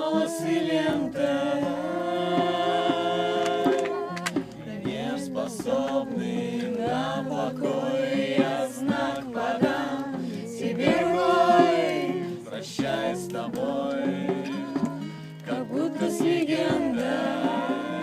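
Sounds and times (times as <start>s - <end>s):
voices singing together: 0.0s - 18.0s.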